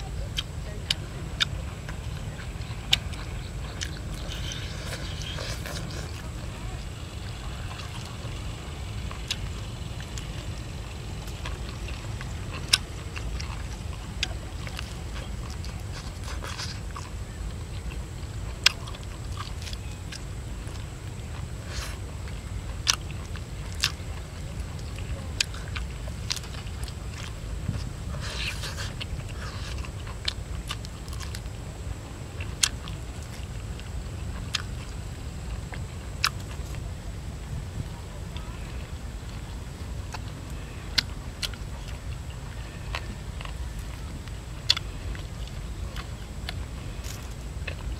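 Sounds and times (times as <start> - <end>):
person chewing with mouth smacks: 0.0 - 36.9, 37.8 - 47.9.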